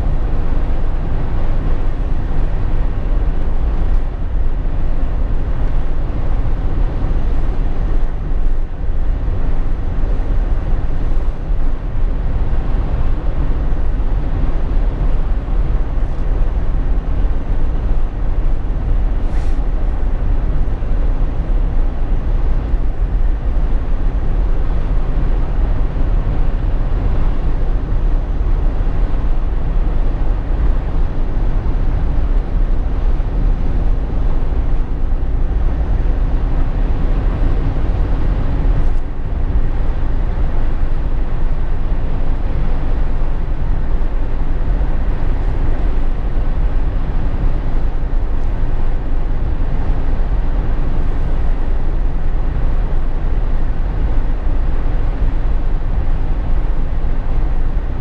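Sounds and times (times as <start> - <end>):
road and engine noise in car: 0.0 - 58.0.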